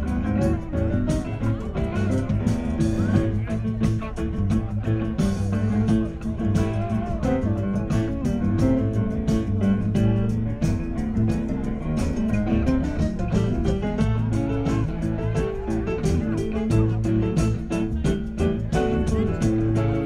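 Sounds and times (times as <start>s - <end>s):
bass guitar: 0.0s - 20.0s
drums keeping a steady beat: 0.0s - 20.0s
electric guitar: 0.0s - 20.0s.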